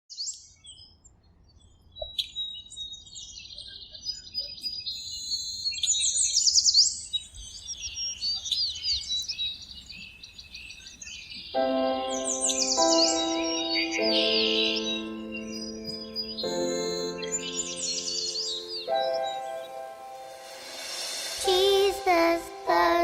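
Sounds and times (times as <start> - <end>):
birds chirping and trilling: 0.1 - 23.0.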